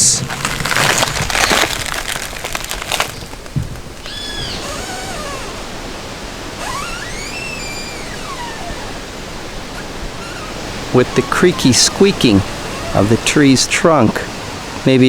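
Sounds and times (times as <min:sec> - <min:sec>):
rustle: 0:00.0 - 0:15.0
tree trunk creaking and squeaking: 0:00.0 - 0:15.0.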